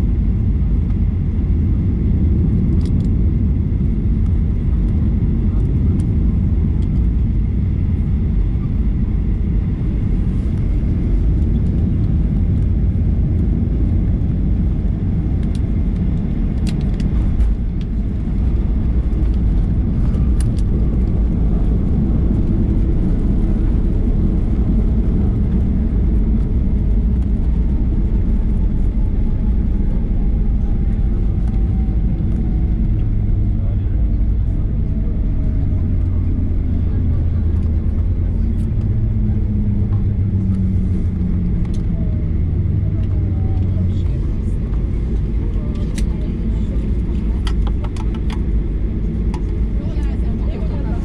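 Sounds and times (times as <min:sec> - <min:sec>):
airflow and jet engine rumble: 0:00.0 - 0:51.0.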